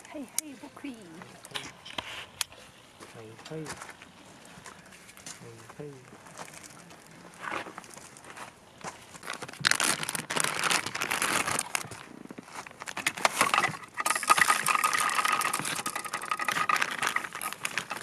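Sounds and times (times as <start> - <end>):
plastic crinkling and rustling: 3.0 - 18.0.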